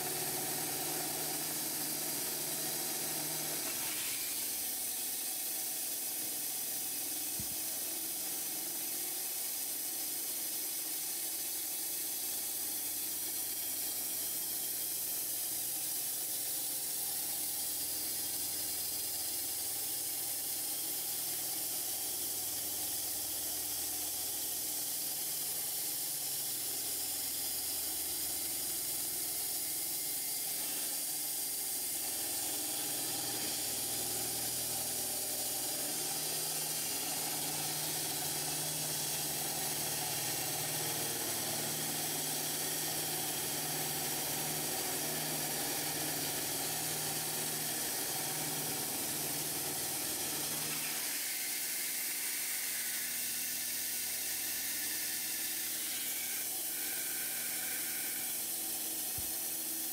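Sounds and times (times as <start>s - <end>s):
band saw blade cutting log: 0.0s - 9.0s, 11.0s - 59.9s
mill motor hum: 0.0s - 59.9s.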